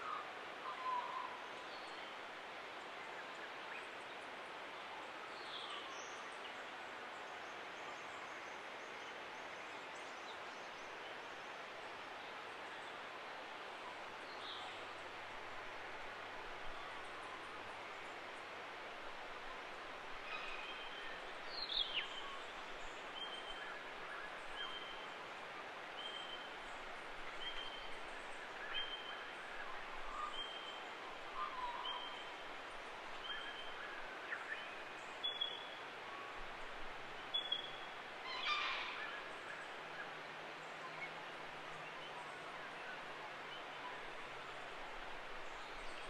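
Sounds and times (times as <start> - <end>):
forest background hiss: 0.0 - 46.0.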